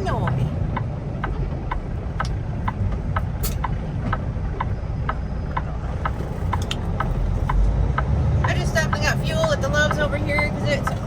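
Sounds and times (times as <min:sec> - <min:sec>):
diesel engine and road rumble: 0:00.0 - 0:11.0
turn signal clicking: 0:00.0 - 0:11.0.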